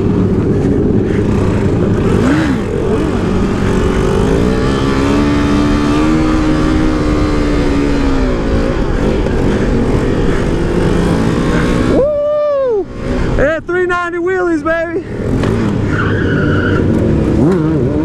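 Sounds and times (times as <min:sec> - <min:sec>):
motorcycle engine revving: 0:00.0 - 0:12.2, 0:15.1 - 0:18.0.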